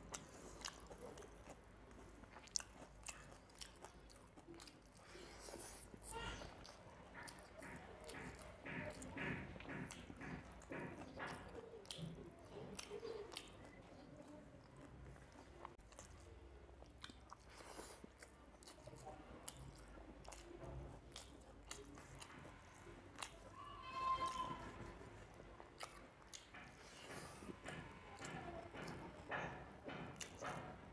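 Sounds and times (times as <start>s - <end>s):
close chewing: 0.0s - 30.9s.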